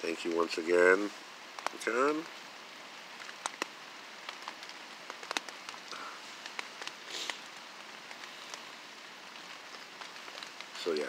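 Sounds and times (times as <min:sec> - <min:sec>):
rain on a plastic tarp: 0:00.0 - 0:11.0.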